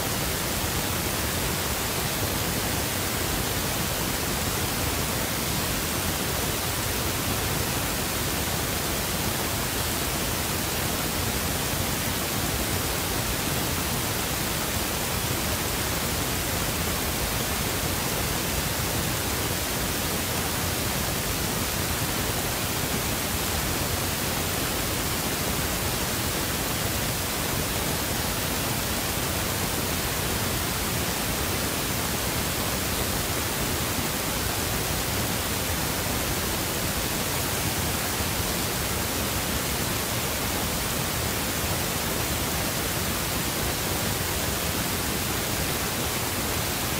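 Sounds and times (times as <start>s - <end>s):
static hiss: 0.0s - 46.9s.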